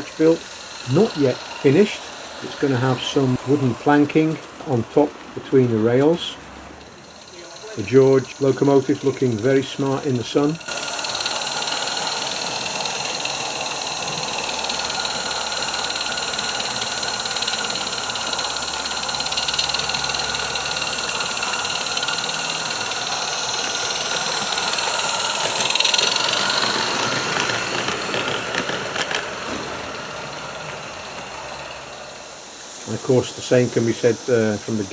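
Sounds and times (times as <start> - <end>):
model steam locomotive hissing: 0.0 - 34.9.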